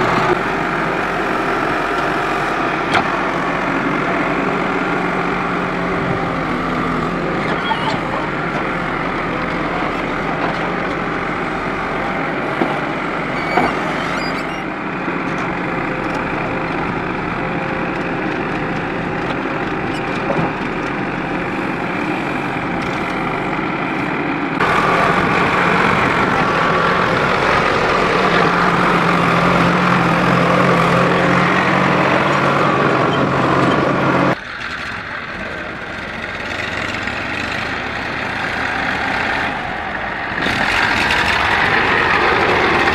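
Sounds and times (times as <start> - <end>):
backhoe diesel engine running: 0.0 - 42.9
tractor diesel engine: 0.0 - 42.9.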